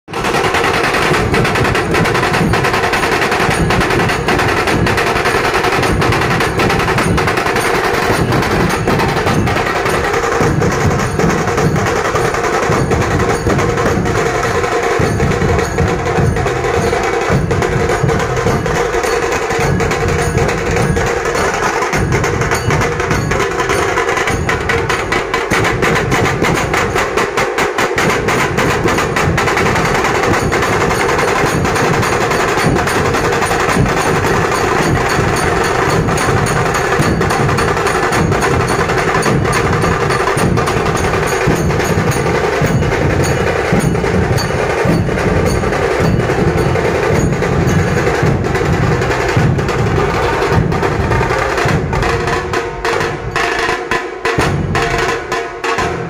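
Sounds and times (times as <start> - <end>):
large drums beating fast rhythm: 0.0 - 56.0
rapid drum rolls: 0.1 - 56.0.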